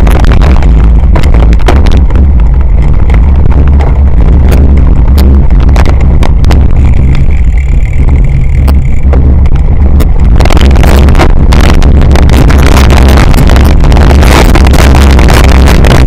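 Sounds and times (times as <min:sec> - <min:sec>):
rattles and knocks: 0:00.0 - 0:16.0
wind buffeting microphone: 0:00.0 - 0:16.0.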